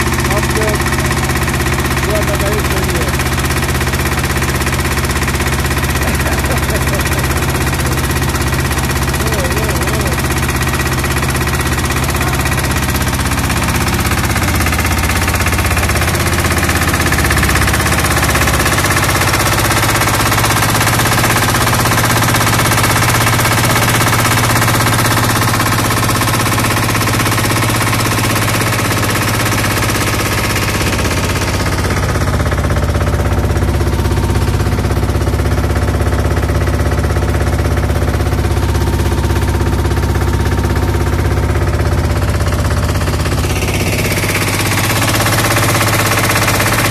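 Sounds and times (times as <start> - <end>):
boat engine chugging: 0.0 - 46.9.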